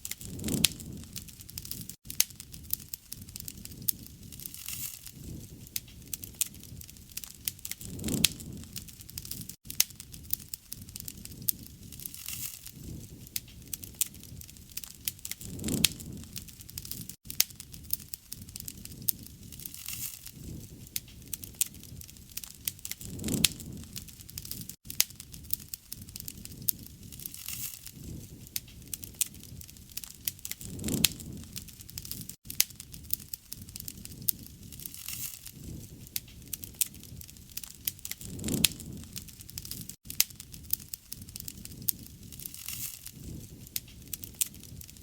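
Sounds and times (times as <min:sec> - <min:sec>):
campfire crackling: 0:00.0 - 0:45.0
low rushing flames: 0:00.0 - 0:45.0.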